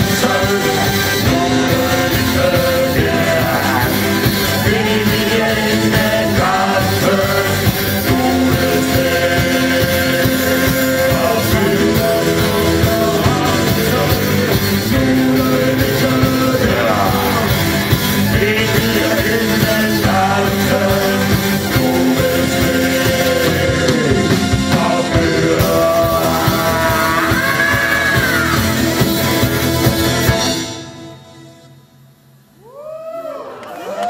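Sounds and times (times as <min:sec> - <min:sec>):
person singing lead: 0:00.0 - 0:28.8
live rock band playing: 0:00.0 - 0:32.0.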